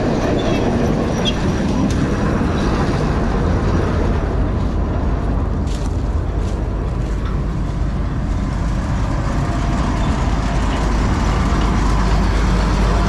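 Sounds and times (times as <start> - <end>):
combine harvester rumbling: 0.0 - 13.0.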